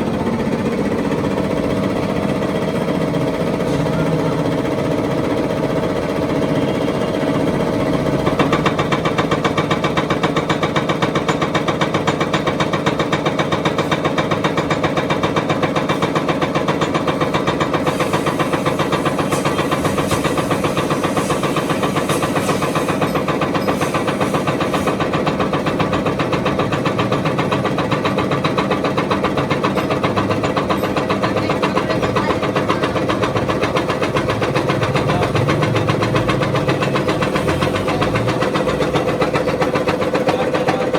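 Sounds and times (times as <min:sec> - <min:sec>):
tractor diesel engine knocking: 0:00.0 - 0:40.9.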